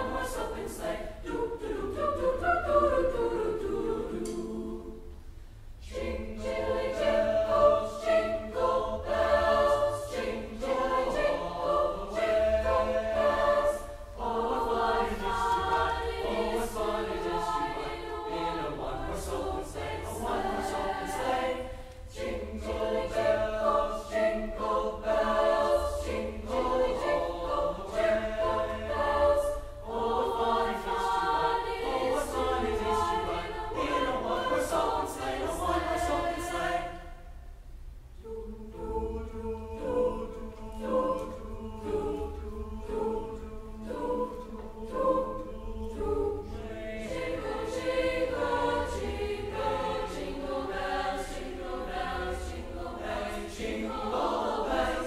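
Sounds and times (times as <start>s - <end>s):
choir singing: 0.0s - 5.2s, 5.8s - 37.4s, 38.2s - 55.0s.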